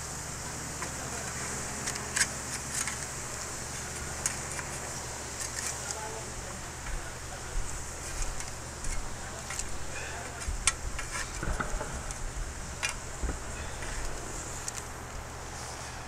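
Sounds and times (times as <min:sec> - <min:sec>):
steady low rumble: 0:03.0 - 0:16.0.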